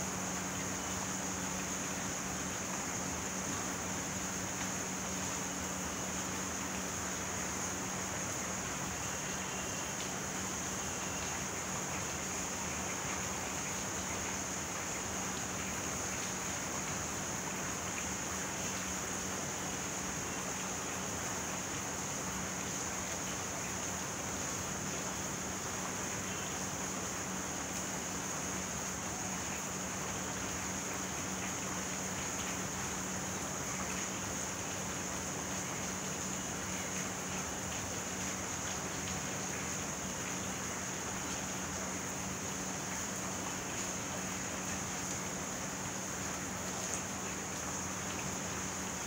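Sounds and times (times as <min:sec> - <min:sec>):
steady rain hiss: 0:00.0 - 0:49.0.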